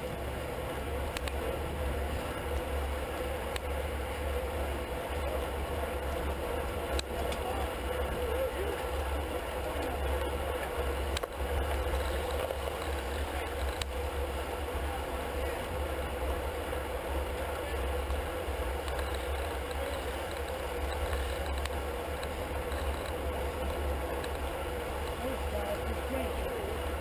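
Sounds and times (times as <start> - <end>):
tyre and road noise: 0.0 - 27.0.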